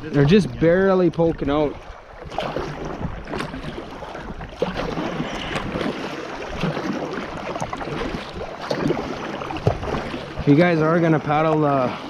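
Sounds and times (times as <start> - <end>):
paddle splashes: 0.0 - 12.0
water splashing around kayak: 0.0 - 12.0.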